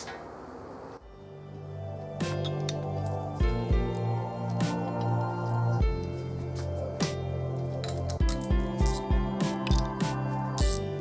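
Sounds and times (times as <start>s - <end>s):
background music with held notes: 1.0s - 11.0s.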